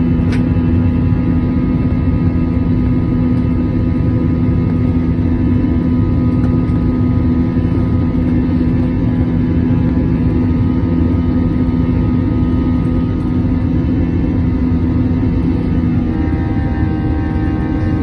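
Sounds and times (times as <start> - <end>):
jet engine drone in cabin: 0.0 - 18.0.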